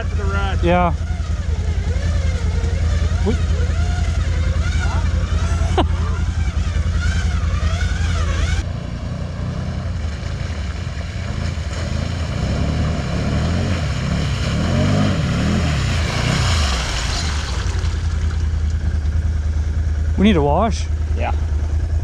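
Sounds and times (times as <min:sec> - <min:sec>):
quad engines revving: 0:00.0 - 0:22.0.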